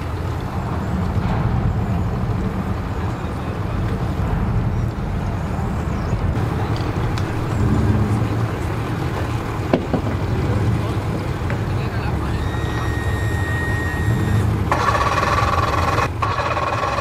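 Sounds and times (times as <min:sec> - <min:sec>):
faint voices: 0:00.0 - 0:16.2
boat engines idling: 0:00.0 - 0:17.0.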